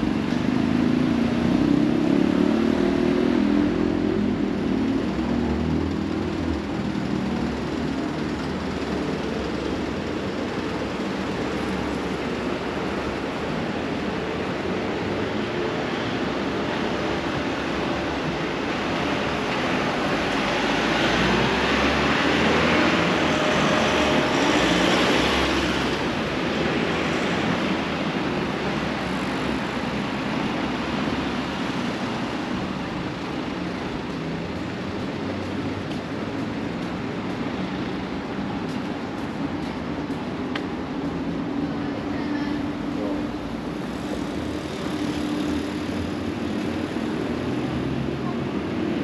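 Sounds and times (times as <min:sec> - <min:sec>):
passing street traffic: 0:00.0 - 0:49.0.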